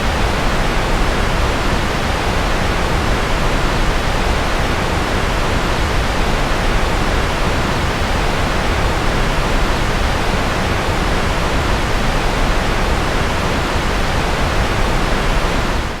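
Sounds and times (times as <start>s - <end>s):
steady rushing white noise: 0.0s - 16.0s.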